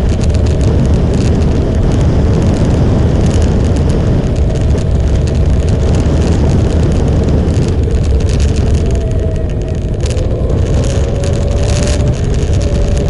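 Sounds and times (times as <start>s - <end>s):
motorcycle engine running: 0.0s - 13.0s
wind rumble on microphone: 0.0s - 13.0s.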